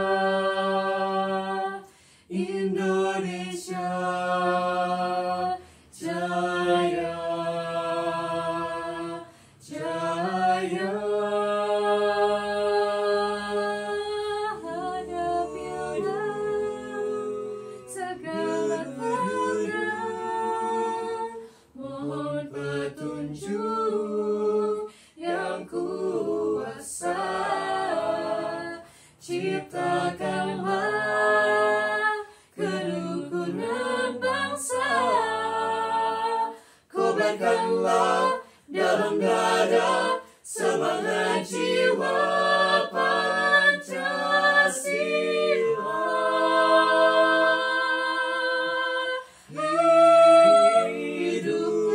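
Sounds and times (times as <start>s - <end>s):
a cappella group singing: 0.0s - 51.9s.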